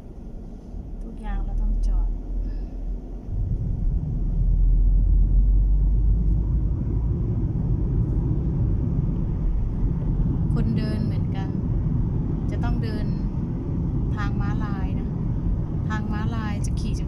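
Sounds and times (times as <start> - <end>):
car rumbling on the move: 0.0 - 17.0.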